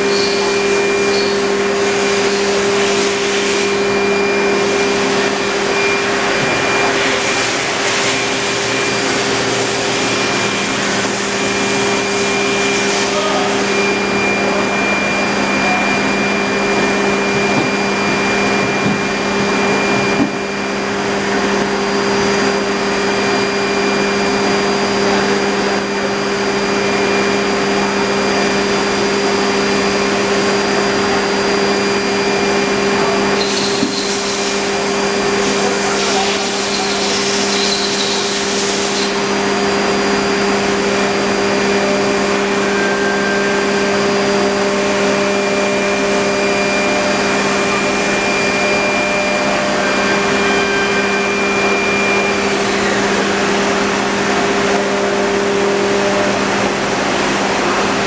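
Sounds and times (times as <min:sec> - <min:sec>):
high machine whine: 0:00.0 - 0:58.0
machine hum: 0:00.0 - 0:58.0.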